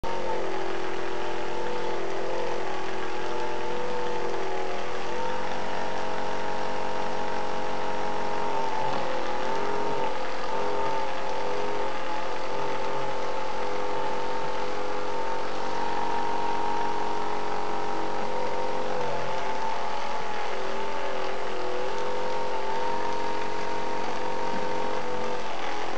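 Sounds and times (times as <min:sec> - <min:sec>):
massager motor hum: 0:00.0 - 0:25.9.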